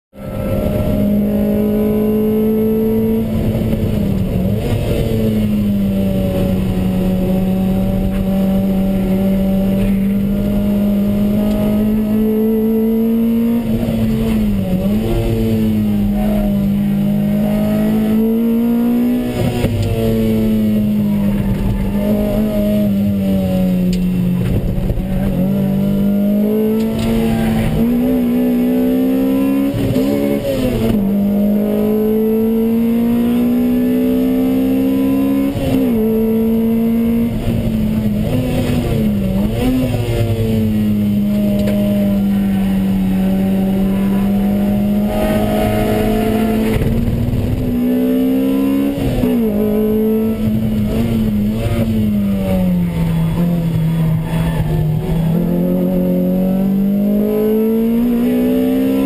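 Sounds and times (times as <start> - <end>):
car engine at high revs: 0.1 - 59.0.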